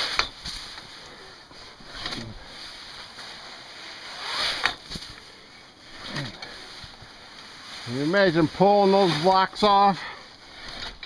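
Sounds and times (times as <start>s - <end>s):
snow sliding off roof: 0.0s - 11.0s.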